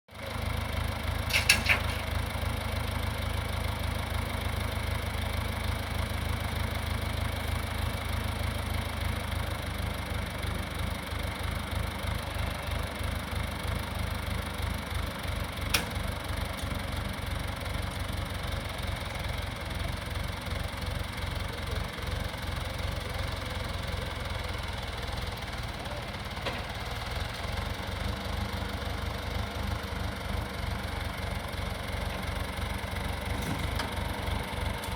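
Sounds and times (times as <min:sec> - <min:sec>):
engine rumbling: 0:00.1 - 0:34.9.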